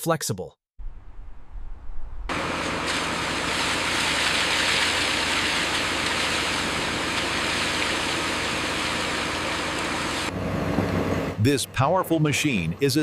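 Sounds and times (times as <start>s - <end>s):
diesel engine humming: 2.3s - 13.0s.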